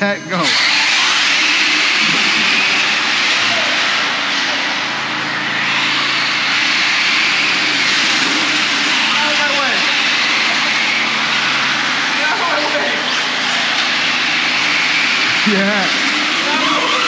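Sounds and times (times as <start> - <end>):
radio-controlled car motors whining: 0.0 - 17.0.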